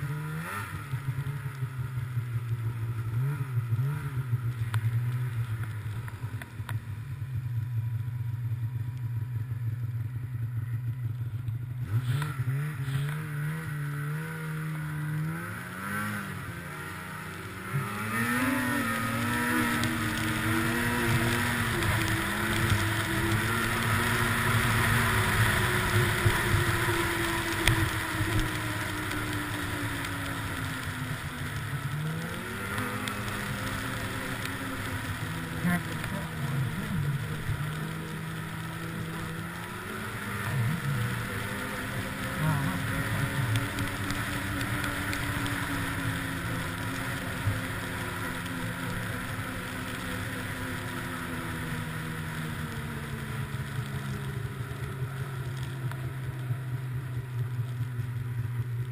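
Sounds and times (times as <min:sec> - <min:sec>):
snowmobile engine: 0:00.0 - 0:58.9.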